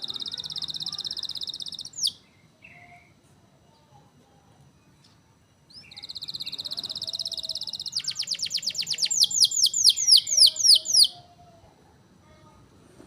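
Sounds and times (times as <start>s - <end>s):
songbird singing: 0.0s - 4.0s, 4.7s - 11.5s.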